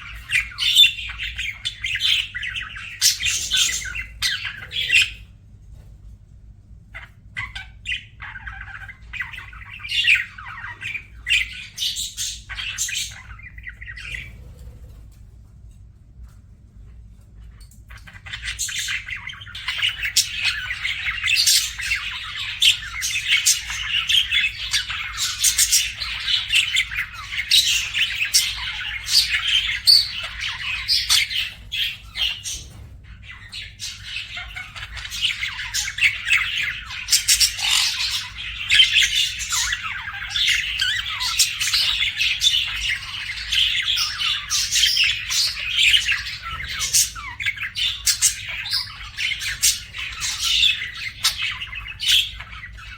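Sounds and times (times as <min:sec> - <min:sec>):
budgerigars chirping: 0:00.0 - 0:05.3, 0:06.9 - 0:14.9, 0:17.9 - 0:52.9.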